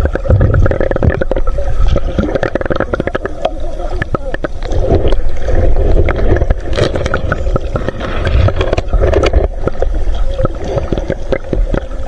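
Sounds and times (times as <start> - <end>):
sharp clicks and crackles: 0.0 - 12.0
underwater rush of water and bubbles: 0.0 - 12.0.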